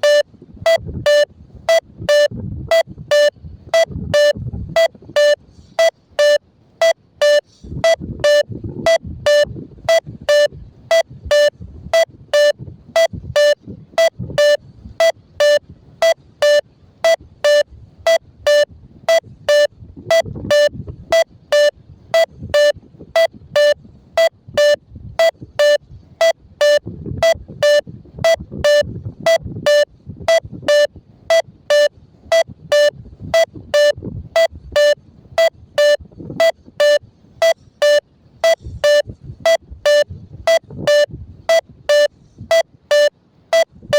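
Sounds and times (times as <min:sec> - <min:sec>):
variometer short beeps: 0:00.0 - 0:43.9.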